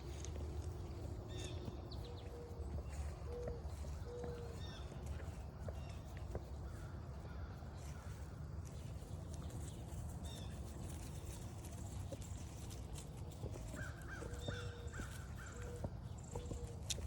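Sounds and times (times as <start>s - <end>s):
steady low rumble: 0.0s - 16.5s.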